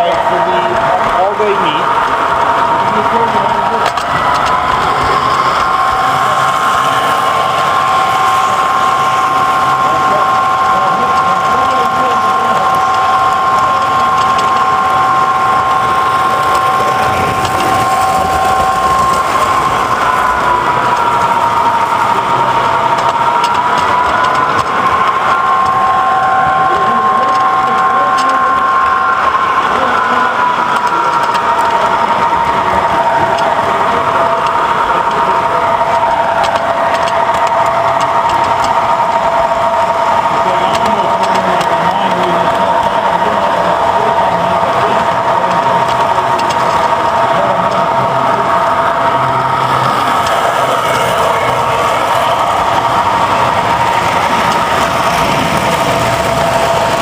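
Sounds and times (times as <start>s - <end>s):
toy train motors whining: 0.0s - 57.0s
wheels rumbling on rails: 0.0s - 57.0s.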